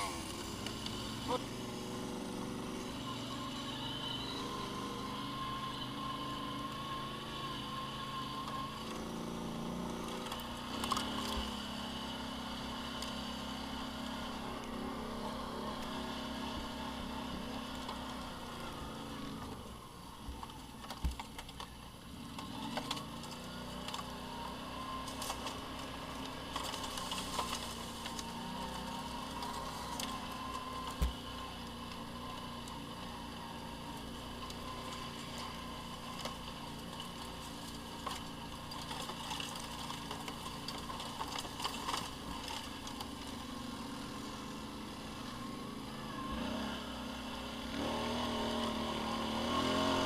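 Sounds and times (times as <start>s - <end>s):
off-road vehicle engine running: 0.0s - 50.0s.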